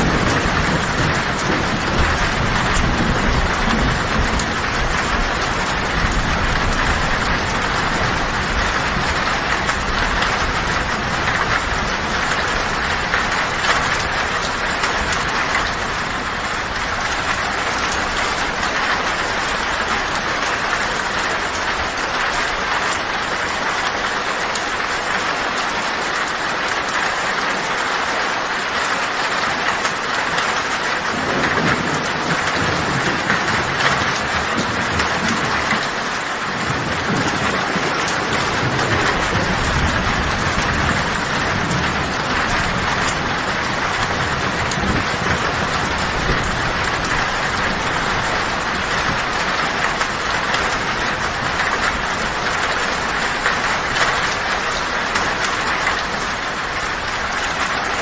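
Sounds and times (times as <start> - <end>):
low thunder rumbling: 0.0 - 23.9, 30.2 - 58.0
heavy rain on a tin roof: 0.0 - 58.0.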